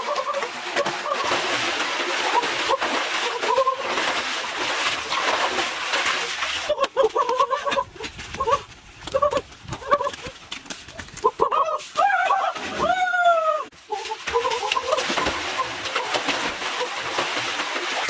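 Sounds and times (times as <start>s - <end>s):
water splashing: 0.0s - 18.0s.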